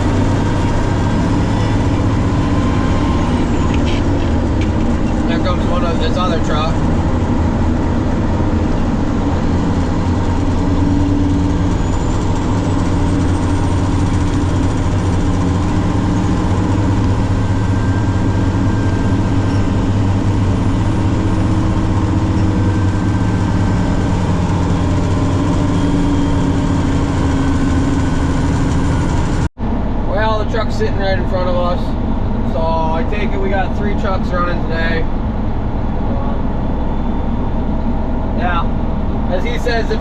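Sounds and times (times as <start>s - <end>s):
truck engine running under load: 0.0s - 40.0s.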